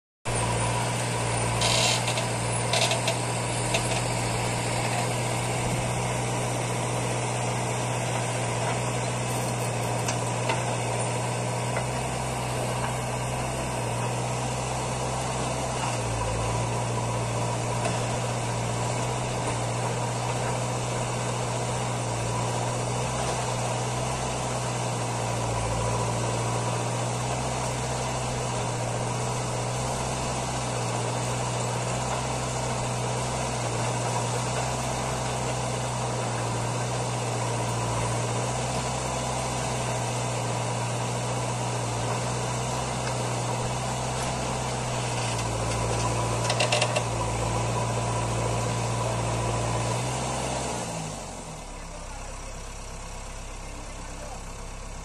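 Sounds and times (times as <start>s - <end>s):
diesel engine running: 0.3s - 55.0s.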